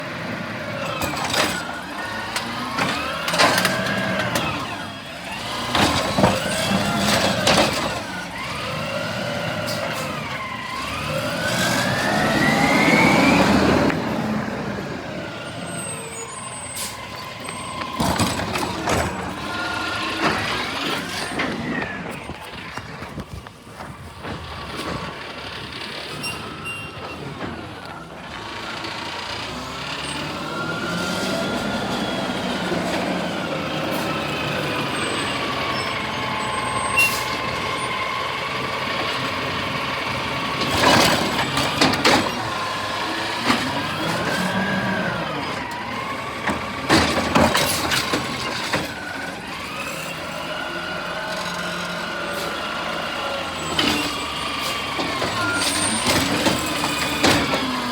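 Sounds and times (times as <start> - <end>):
garbage truck engine revving: 0.0 - 57.9.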